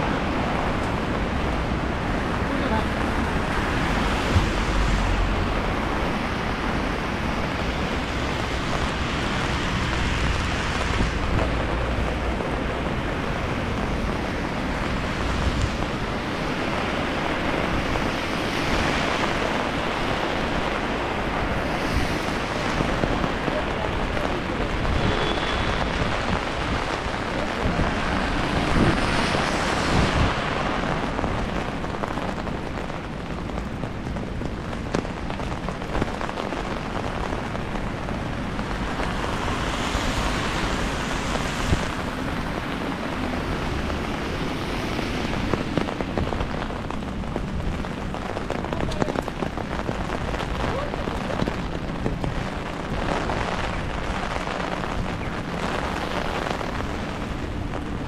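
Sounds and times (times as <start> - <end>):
car tyres hissing on wet road: 0.0 - 58.0
rain pattering on umbrella: 0.0 - 58.0.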